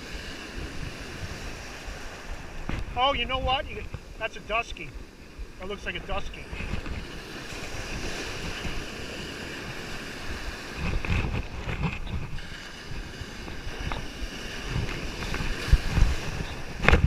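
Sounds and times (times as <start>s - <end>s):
surf washing on beach: 0.0s - 17.0s
wind on microphone: 0.0s - 17.0s.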